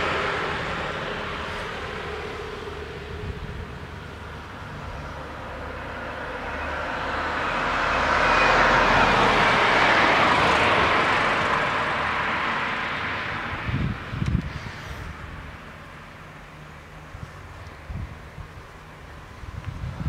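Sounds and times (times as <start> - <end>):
vehicle passing by: 0.0 - 20.0.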